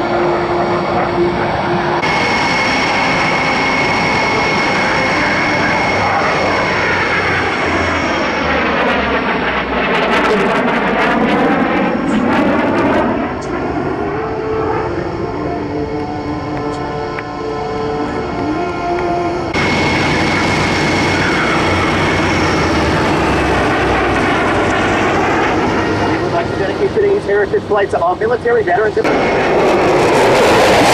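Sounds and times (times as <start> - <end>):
aircraft engines passing overhead: 0.0 - 30.9.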